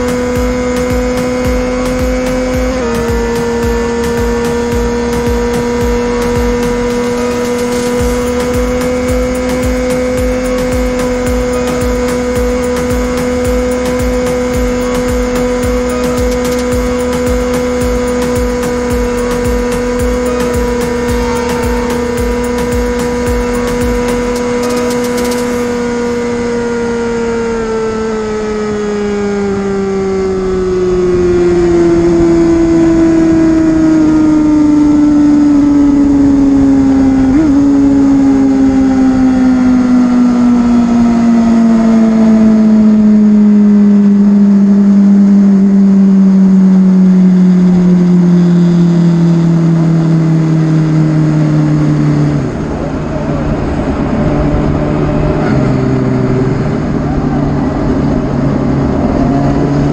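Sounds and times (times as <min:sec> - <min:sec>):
motorcycle engine revving down: 0:00.0 - 0:59.9.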